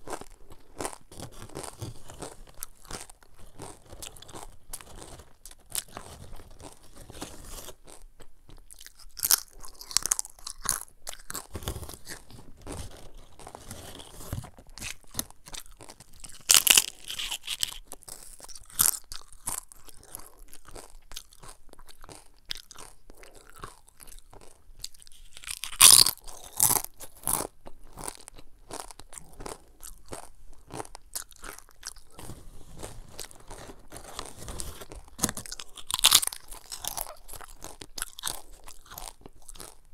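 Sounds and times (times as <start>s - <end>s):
crunching and chewing chips: 0.0s - 39.9s.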